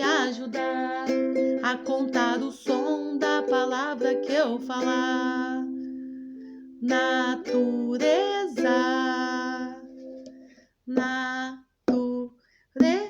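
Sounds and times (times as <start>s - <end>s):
woman singing: 0.0s - 5.9s, 6.8s - 10.3s, 10.9s - 13.0s
ukulele strumming: 0.0s - 11.2s.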